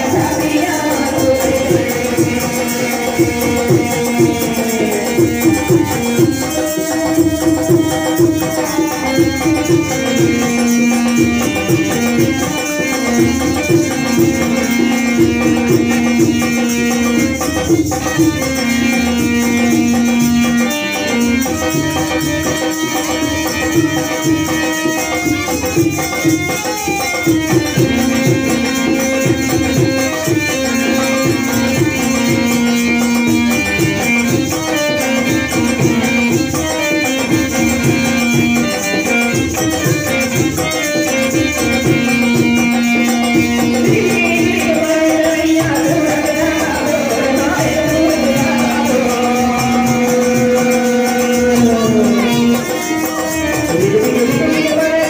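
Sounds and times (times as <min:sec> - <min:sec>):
percussion beat: 0:00.0 - 0:55.0.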